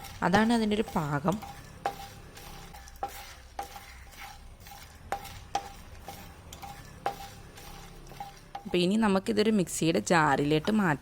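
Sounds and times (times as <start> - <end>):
spatula knocking metal pan: 0.0 - 8.9
spices scraping in a pan: 0.0 - 11.0.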